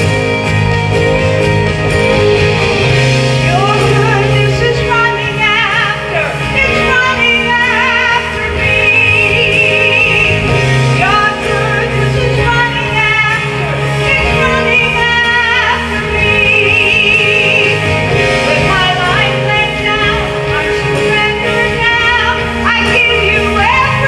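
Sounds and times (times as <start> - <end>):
instrumental accompaniment with bass: 0.0 - 24.0
person singing with vibrato: 1.9 - 24.0.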